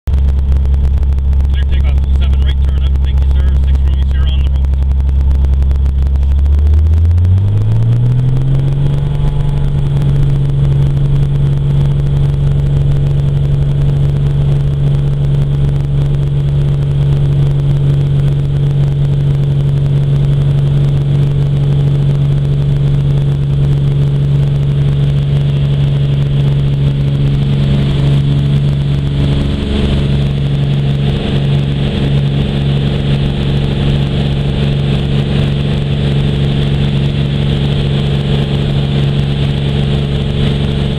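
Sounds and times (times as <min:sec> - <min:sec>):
aircraft piston engine drone: 0:00.1 - 0:40.9.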